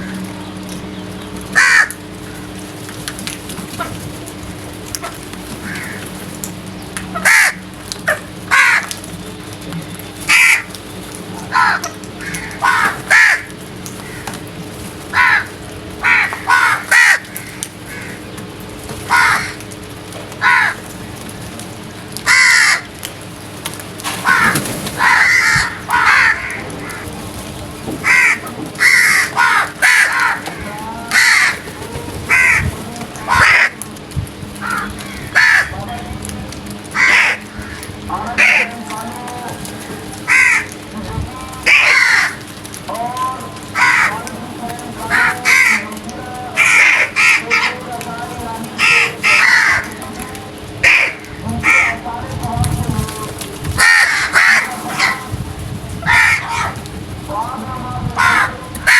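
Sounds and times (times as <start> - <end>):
crows cawing: 1.5 - 3.0, 4.8 - 6.4, 7.0 - 9.1, 10.2 - 23.0, 24.1 - 27.2, 27.9 - 36.0, 36.9 - 52.1, 53.7 - 55.4, 56.0 - 56.9, 58.0 - 58.9.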